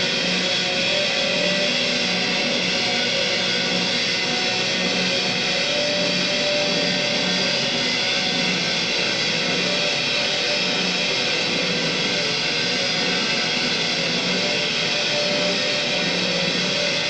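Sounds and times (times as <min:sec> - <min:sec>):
steady mechanical rush: 0:00.0 - 0:17.0.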